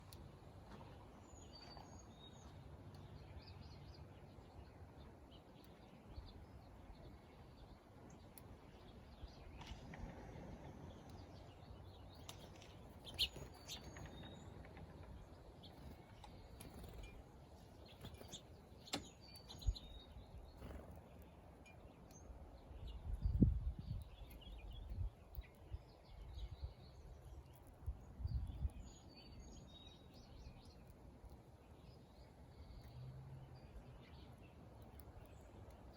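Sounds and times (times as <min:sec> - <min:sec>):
faint low outdoor rumble: 0:00.0 - 0:35.9
small birds chirping: 0:00.0 - 0:35.9.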